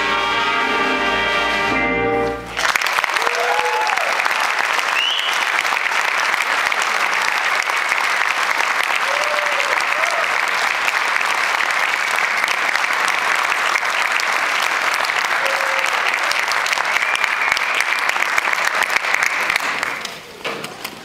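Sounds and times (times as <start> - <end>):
audience applauding: 2.5 - 21.0.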